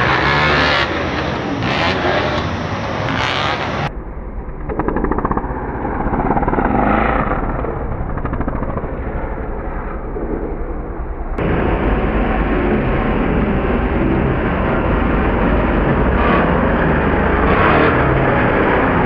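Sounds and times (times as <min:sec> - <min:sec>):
dirt bike engines revving: 0:00.0 - 0:04.0, 0:04.6 - 0:19.0.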